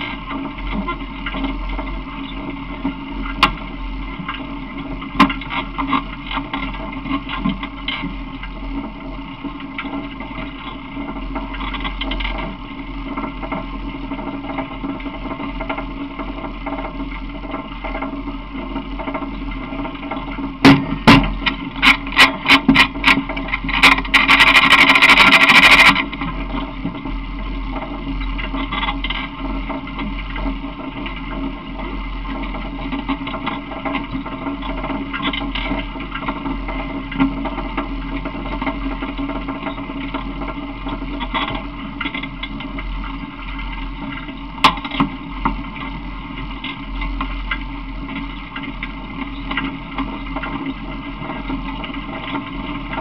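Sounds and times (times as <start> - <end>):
vehicle ride rumble: 0.0 - 53.0.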